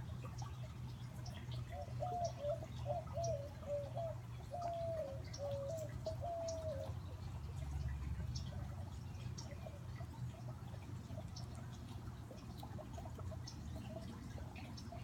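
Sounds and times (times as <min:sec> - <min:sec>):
fountain water flowing: 0:00.0 - 0:15.0
small birds chirping: 0:00.0 - 0:15.0.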